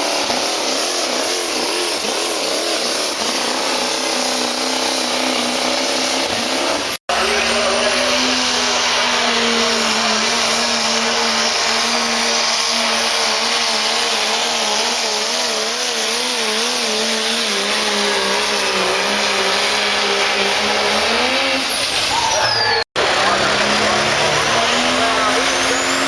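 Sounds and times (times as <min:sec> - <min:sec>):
diesel truck engine at high revs: 0:00.0 - 0:26.0.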